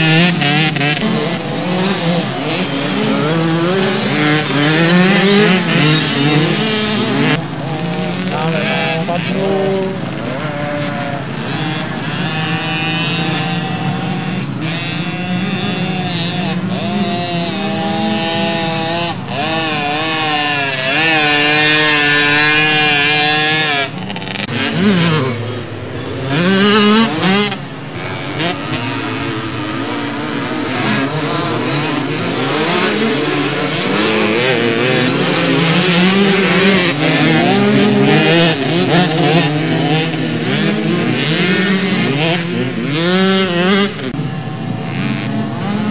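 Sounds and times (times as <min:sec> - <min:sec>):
motocross bikes racing: 0:00.0 - 0:45.9.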